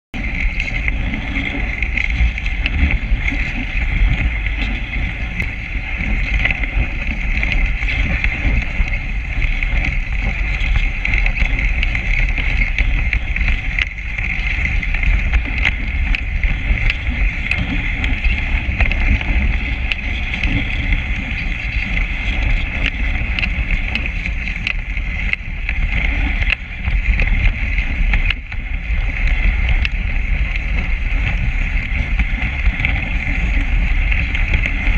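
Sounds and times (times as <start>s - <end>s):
low rumble: 0.2s - 34.9s
sled runners hissing over snow: 0.2s - 34.9s.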